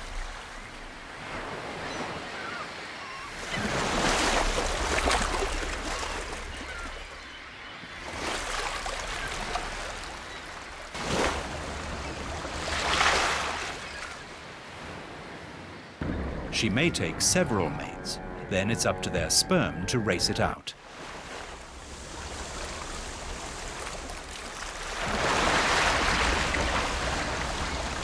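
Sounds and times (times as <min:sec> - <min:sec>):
sea water splashing: 0:00.0 - 0:28.0.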